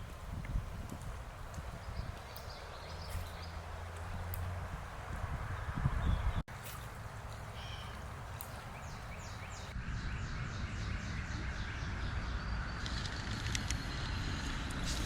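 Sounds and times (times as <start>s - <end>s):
small bird singing: 0.0s - 12.8s
steady outdoor hiss: 0.0s - 15.0s.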